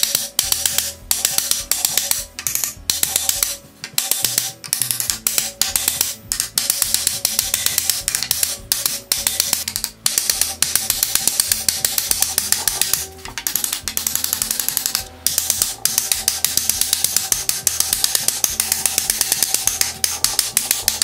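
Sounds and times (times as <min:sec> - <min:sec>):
music with fast percussive beat: 0:00.0 - 0:21.0.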